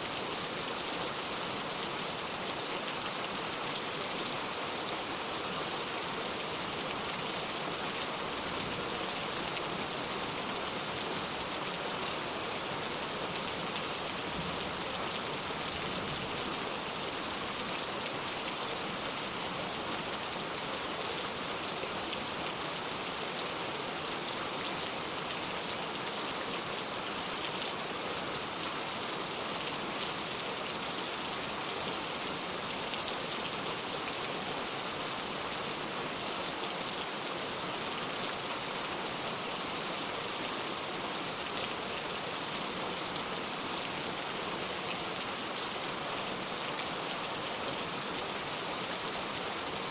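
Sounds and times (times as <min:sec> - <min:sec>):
rain falling on ground: 0:00.0 - 0:49.9.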